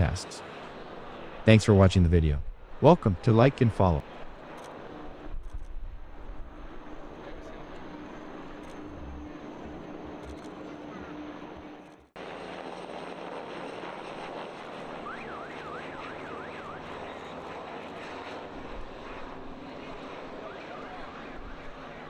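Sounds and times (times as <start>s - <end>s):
rushing aircraft noise: 0.0s - 22.0s.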